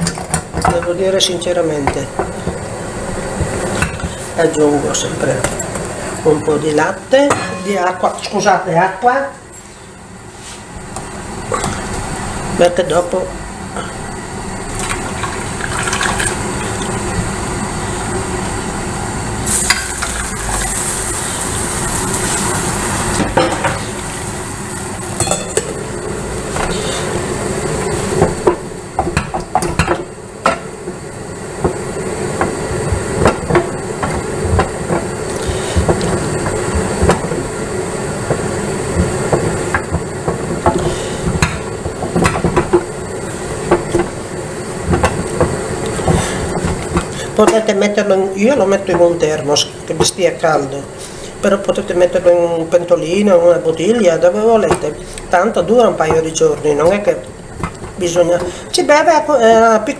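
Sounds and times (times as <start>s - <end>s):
sizzling hiss: 0.0s - 59.9s.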